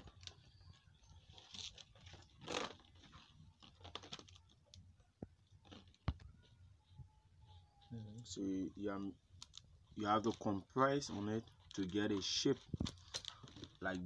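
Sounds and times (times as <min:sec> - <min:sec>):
plastic mat crinkling: 0:00.0 - 0:07.6, 0:08.9 - 0:14.0.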